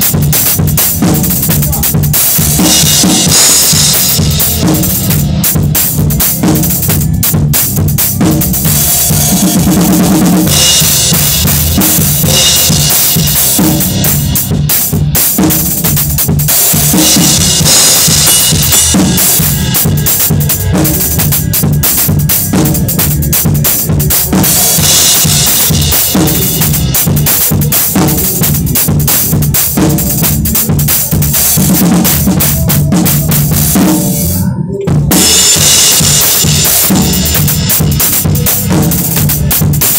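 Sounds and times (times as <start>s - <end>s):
bass drum: 0.0s - 39.9s
cymbals washing: 0.0s - 39.9s.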